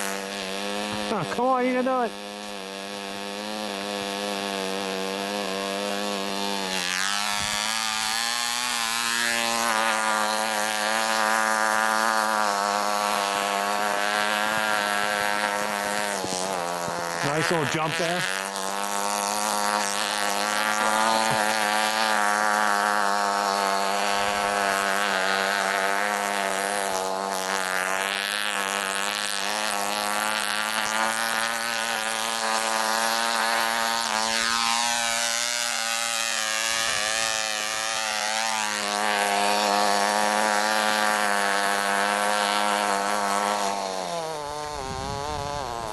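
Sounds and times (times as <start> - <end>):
model engine high-pitched buzz: 0.0 - 45.9.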